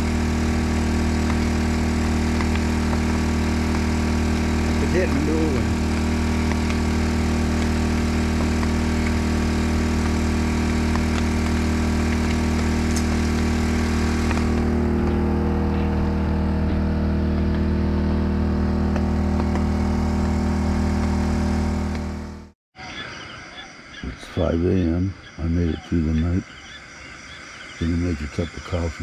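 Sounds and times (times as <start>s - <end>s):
generator engine humming: 0.0s - 22.6s, 24.0s - 26.4s, 27.3s - 29.0s.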